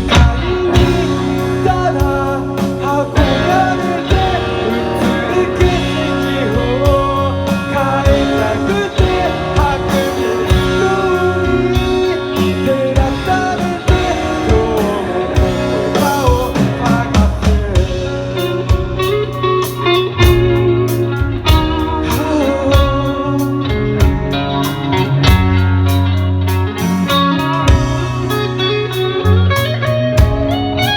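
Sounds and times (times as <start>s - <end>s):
lead electric guitar melody: 0.0s - 30.9s
rock band playing: 0.0s - 30.9s.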